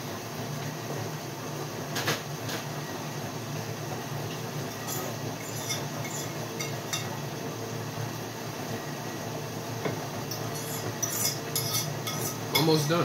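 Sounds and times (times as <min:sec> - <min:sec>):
dishwasher humming and swishing: 0:00.0 - 0:13.0.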